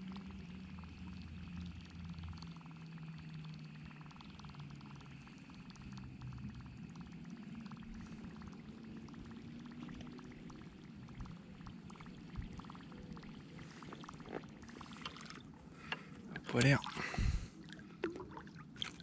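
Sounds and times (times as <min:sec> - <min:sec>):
fishing reel whirring rattle: 0:00.0 - 0:15.6
low hum: 0:00.0 - 0:19.0.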